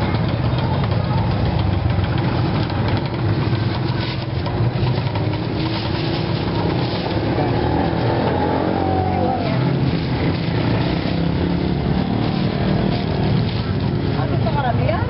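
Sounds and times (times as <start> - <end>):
motorcycle and car engines passing: 0.0 - 15.0
street traffic rumble: 0.0 - 15.0.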